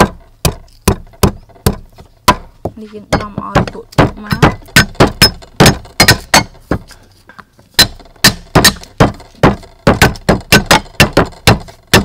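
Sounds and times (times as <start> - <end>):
cleaver striking wooden block: 0.0 - 6.9, 7.8 - 12.0.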